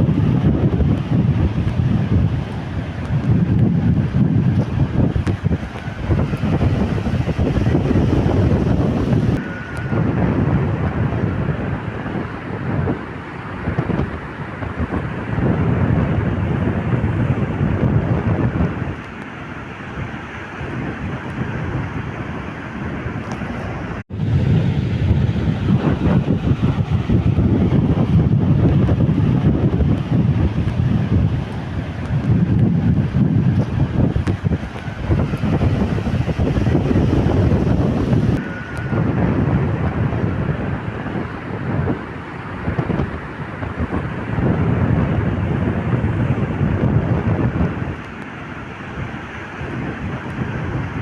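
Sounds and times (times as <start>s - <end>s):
sea waves: 0.0s - 15.5s, 16.5s - 44.4s
wind buffeting microphone: 0.0s - 51.0s.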